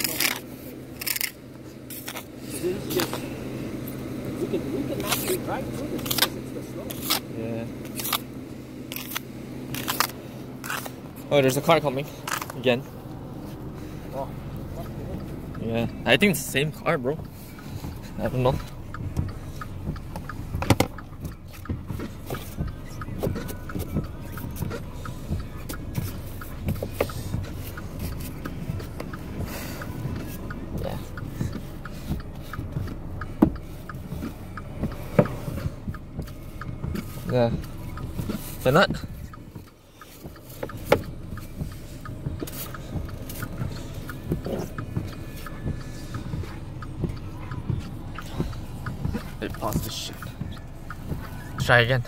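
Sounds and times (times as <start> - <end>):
car engine and tyres rumbling: 0.0 - 52.0
light ticking: 7.8 - 52.0.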